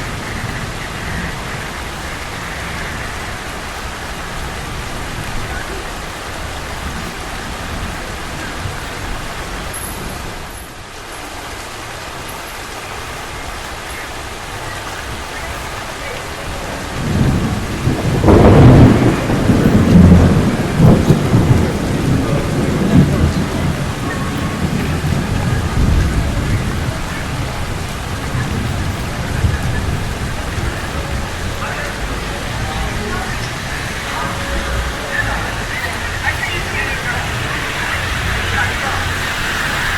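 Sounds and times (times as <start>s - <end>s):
rolling thunder rumble: 0.0s - 10.5s, 14.6s - 39.9s
steady rain falling: 0.0s - 39.9s.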